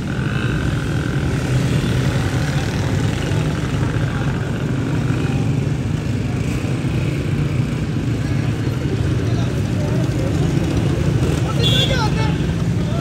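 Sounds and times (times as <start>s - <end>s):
motorcycle engines passing: 0.0s - 13.0s.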